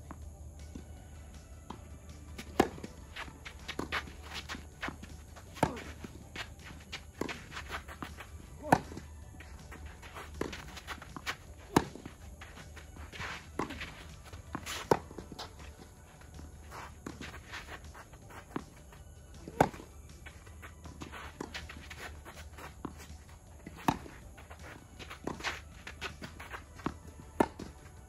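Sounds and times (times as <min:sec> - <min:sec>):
footsteps and shoe scuffs on court: 0:00.0 - 0:28.0
tennis racket hitting ball: 0:02.4 - 0:18.8, 0:19.4 - 0:27.7.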